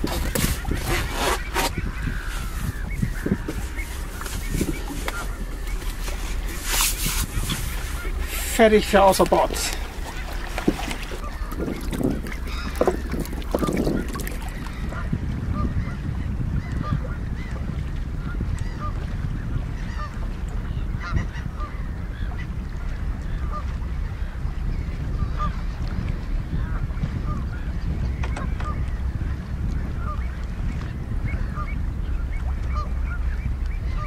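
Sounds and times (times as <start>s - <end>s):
water birds honking: 0.0s - 34.0s
wind rumble on microphone: 0.0s - 34.0s.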